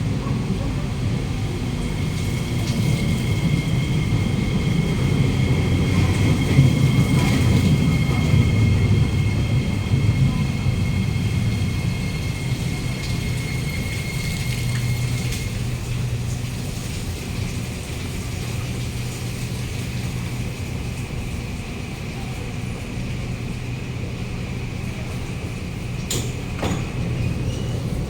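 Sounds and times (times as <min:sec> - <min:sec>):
high whines of train equipment: 0:00.0 - 0:28.0
train low rumble: 0:00.0 - 0:28.0.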